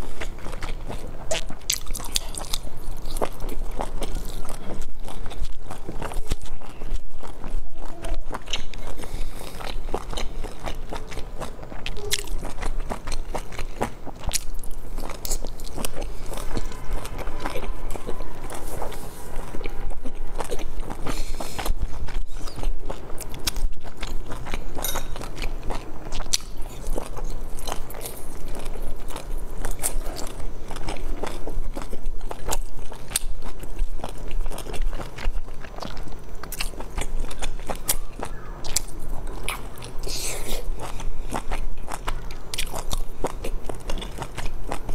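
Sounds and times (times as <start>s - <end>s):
chewing dumplings: 0.0s - 44.9s.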